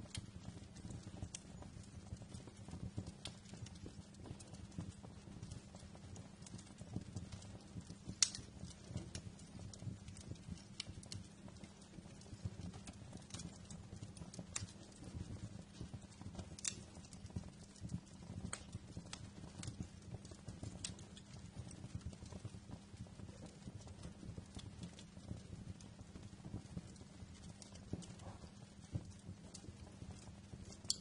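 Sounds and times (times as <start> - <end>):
fire pops and snaps: 0.0 - 31.0
low rumble of fire burning: 0.0 - 31.0.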